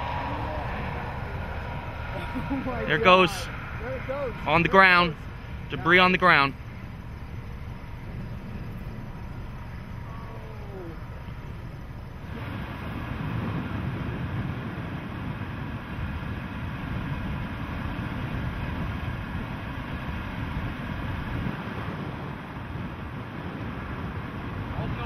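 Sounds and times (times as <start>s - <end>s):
wind on microphone: 0.0s - 5.7s, 8.0s - 25.0s
road noise rumble: 0.0s - 25.0s.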